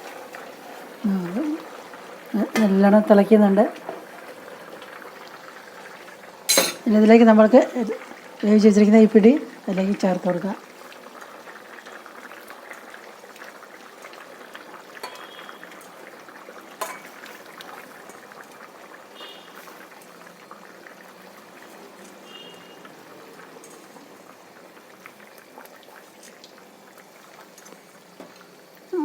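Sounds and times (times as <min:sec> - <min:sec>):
curry bubbling in a pot: 0:00.0 - 0:29.0.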